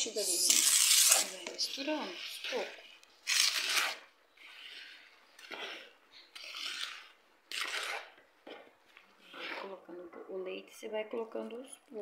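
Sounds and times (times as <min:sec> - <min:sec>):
wet rustling of hand mixing batter: 0:00.0 - 0:12.0.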